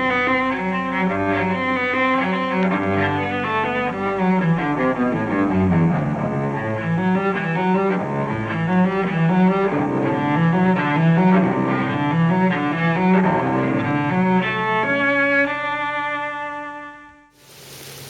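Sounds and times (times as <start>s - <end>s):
bowed strings music: 0.0s - 17.3s.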